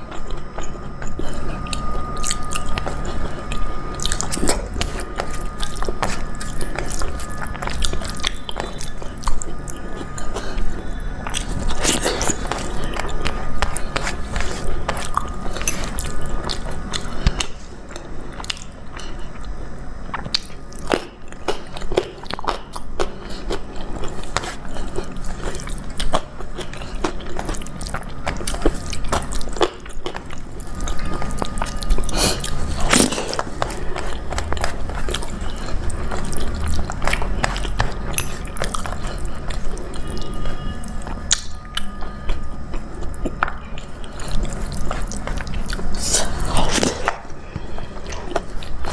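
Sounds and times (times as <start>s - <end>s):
food crunching: 0.0s - 48.9s
person chewing food: 0.0s - 48.9s.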